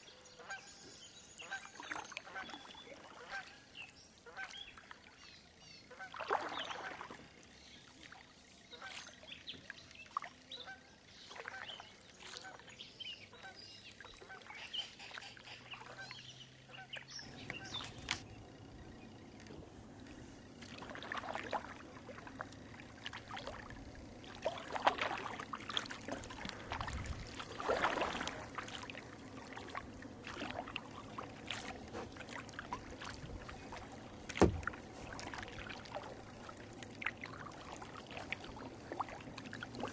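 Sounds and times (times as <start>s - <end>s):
kayak paddle splashing: 0.0s - 39.9s
waterfowl calling: 0.1s - 7.3s, 8.6s - 39.9s.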